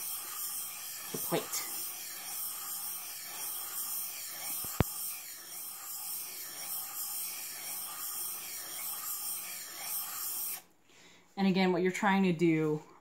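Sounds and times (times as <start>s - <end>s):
blade scraping on wet sandpaper: 0.0s - 10.7s.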